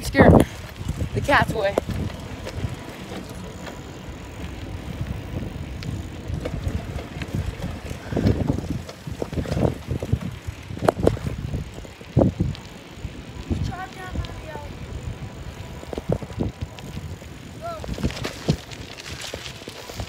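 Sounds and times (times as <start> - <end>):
bicycle tyres rumbling on asphalt: 0.0 - 20.0
wind buffeting microphone: 0.0 - 20.0.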